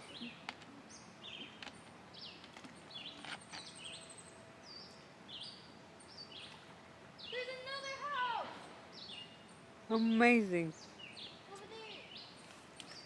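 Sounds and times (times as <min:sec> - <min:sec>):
faint outdoor hiss: 0:00.0 - 0:13.0
high bird trill: 0:00.0 - 0:13.0
songbirds chirping: 0:00.0 - 0:13.0.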